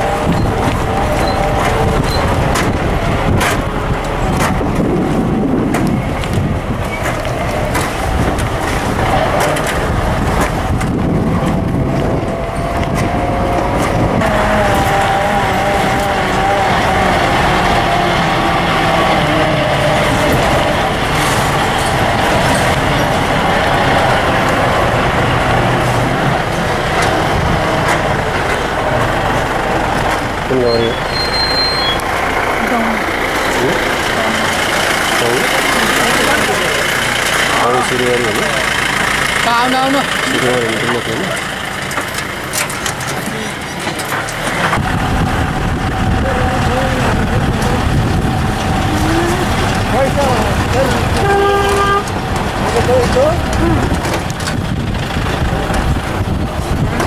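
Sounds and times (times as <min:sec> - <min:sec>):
knocks and rattles from rough road: 0:00.0 - 0:57.0
vehicle engine under load: 0:00.0 - 0:57.0.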